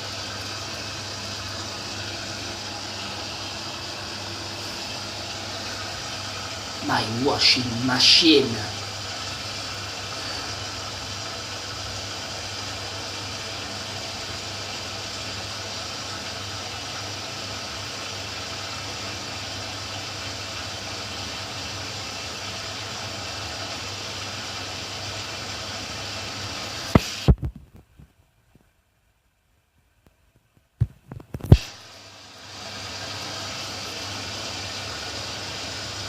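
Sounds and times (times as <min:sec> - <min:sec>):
washing machine water intake hiss: 0:00.0 - 0:27.5, 0:30.8 - 0:36.0.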